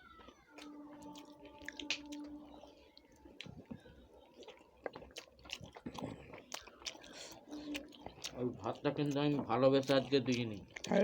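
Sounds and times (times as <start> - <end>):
chewing with lip smacks: 0.2 - 11.0.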